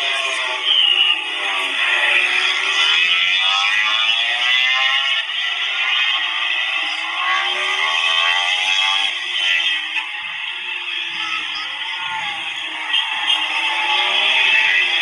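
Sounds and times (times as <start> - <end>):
racing motorcycle engines revving: 0.0 - 15.0.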